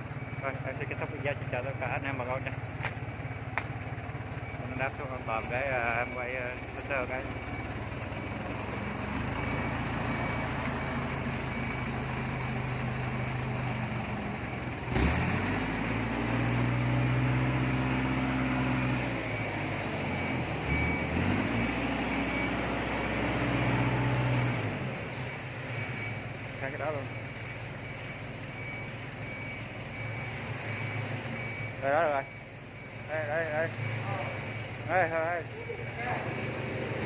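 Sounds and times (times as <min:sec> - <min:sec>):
heavy vehicle engine revving: 0:00.0 - 0:37.0
reversing alarm beep: 0:00.0 - 0:37.0.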